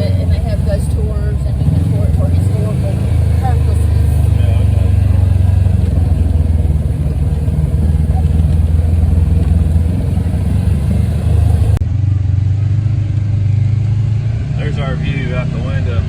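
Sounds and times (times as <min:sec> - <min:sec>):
utility vehicle engine droning: 0:00.0 - 0:16.0.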